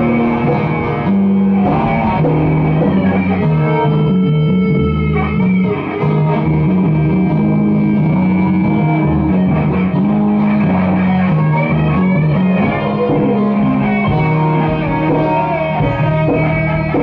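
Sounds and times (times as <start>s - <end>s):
bass guitar line: 0.0s - 17.0s
distorted electric guitars: 0.0s - 17.0s.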